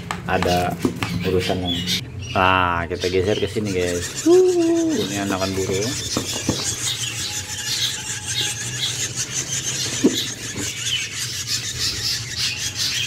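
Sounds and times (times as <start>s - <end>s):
nestling birds cheeping: 0.0s - 13.0s.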